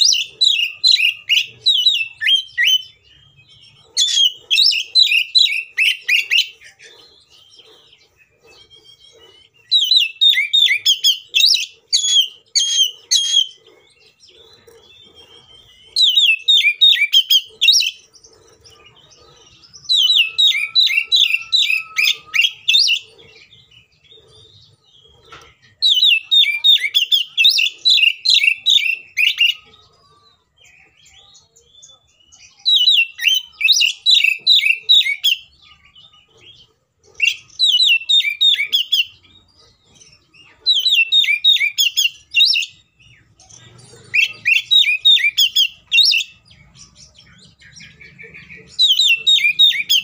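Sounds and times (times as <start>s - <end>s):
songbird singing sharp notes: 0.0s - 50.0s.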